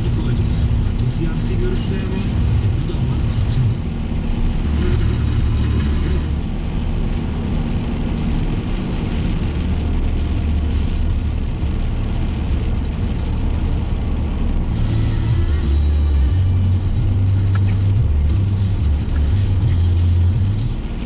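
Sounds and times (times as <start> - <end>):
engine and tyre rumble: 0.0 - 21.0
tyres hissing on wet road: 0.0 - 21.0.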